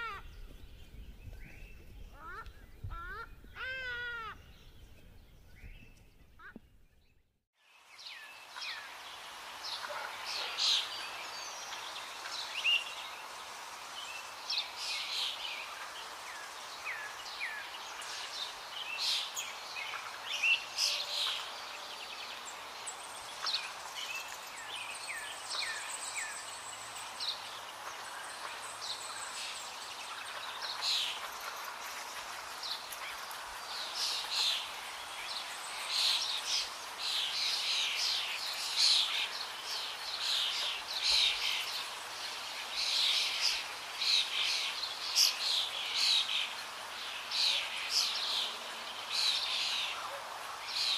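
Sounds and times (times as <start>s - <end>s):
steady outdoor hiss: 0.0s - 50.9s.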